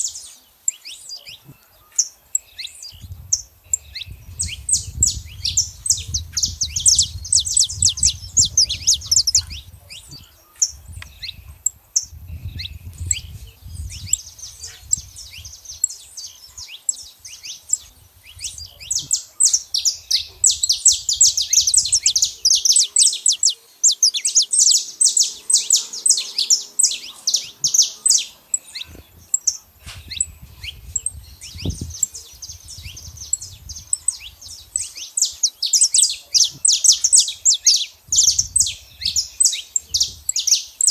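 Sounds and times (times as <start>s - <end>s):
finch singing high chirps: 0.0s - 40.9s.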